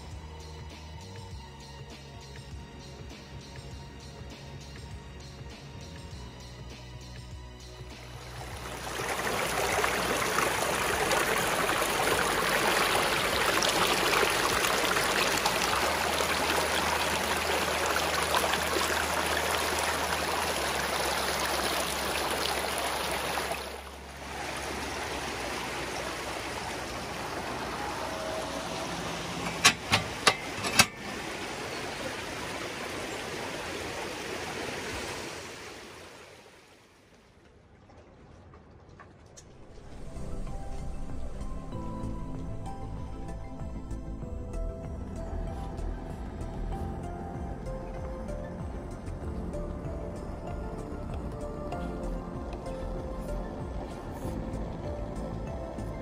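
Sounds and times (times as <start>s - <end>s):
rushing water: 7.8s - 56.0s.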